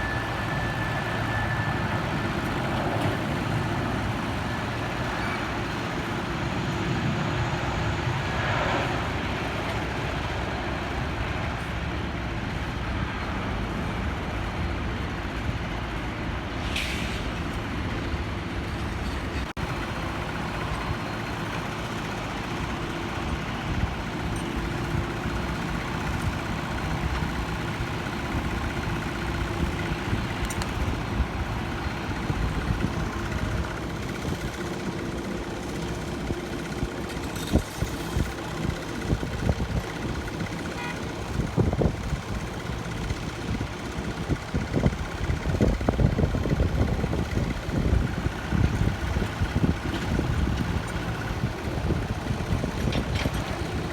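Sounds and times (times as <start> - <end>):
engine rumble: 0.0 - 53.9.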